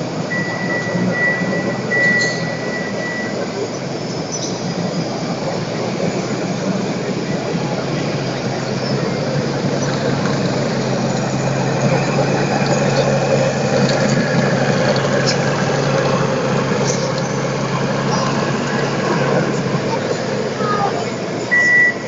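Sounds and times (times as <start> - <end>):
hall noise: 0.0 - 22.0
low engine-like drone: 0.0 - 22.0.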